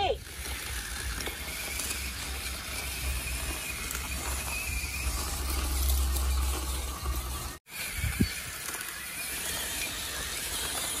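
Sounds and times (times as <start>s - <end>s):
toy truck motor whirring: 0.0s - 11.0s.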